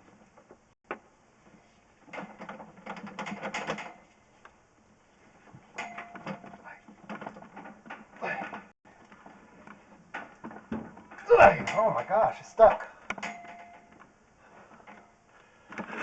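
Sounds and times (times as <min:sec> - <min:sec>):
push cable clattering and scraping: 0:01.5 - 0:04.5, 0:05.2 - 0:16.0.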